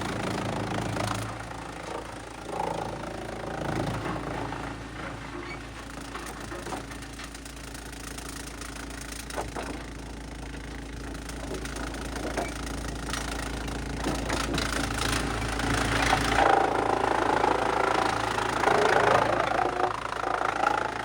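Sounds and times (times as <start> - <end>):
wood chipper engine running: 0.0 - 21.0.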